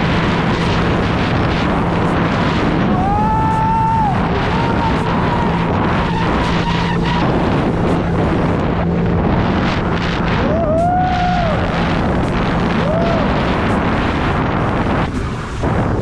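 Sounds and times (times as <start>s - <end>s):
jet ski engine drone: 0.0s - 16.0s
water spray on hull: 0.0s - 16.0s
wind noise on microphone: 0.0s - 16.0s.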